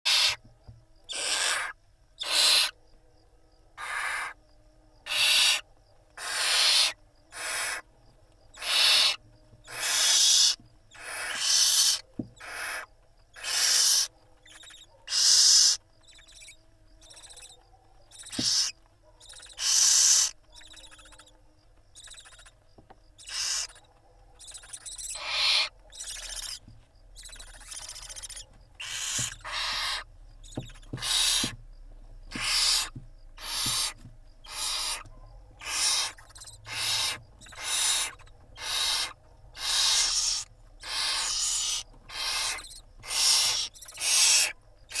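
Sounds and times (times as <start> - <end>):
barn owls screeching: 0.0 - 2.8, 3.8 - 4.4, 5.0 - 5.6, 6.2 - 7.9, 8.5 - 21.4, 22.0 - 22.6, 23.2 - 31.6, 32.2 - 45.0.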